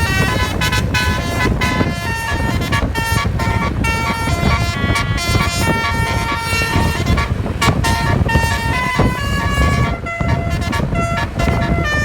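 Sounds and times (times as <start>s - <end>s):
low rumble: 0.0s - 12.0s
multi-tone air horn tune: 0.0s - 12.0s.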